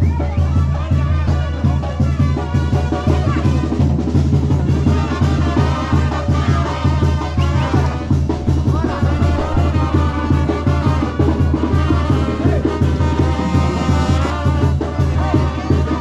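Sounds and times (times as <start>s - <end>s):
brass band music with drums: 0.0s - 16.0s.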